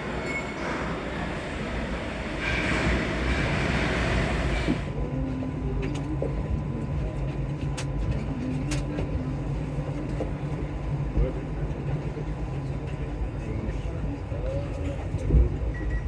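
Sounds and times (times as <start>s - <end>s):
metro train rumble: 0.0s - 16.0s.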